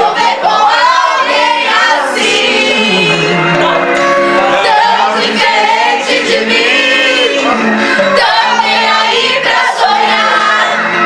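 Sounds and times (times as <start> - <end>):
group singing: 0.0 - 11.0.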